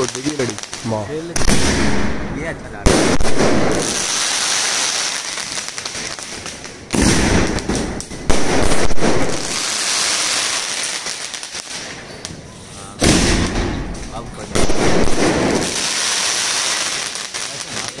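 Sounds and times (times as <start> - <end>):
crackle of firework stars: 0.0 - 18.0
firework bangs: 0.0 - 18.0.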